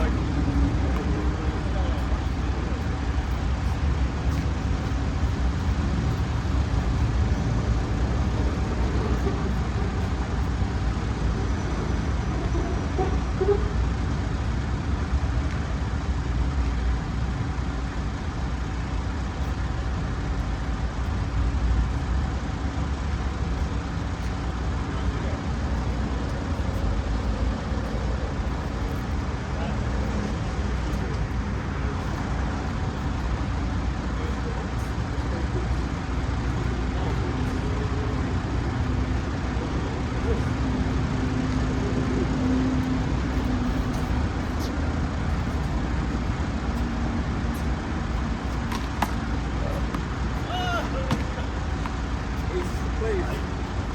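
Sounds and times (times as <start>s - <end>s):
low outdoor rumble: 0.0s - 53.9s.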